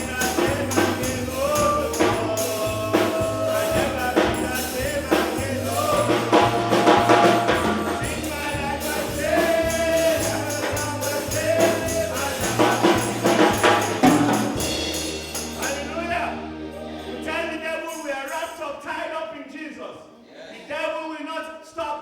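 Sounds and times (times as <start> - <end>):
bass notes: 0.0 - 17.8
tambourine shaken: 0.0 - 19.0
gospel choir singing: 0.0 - 19.1.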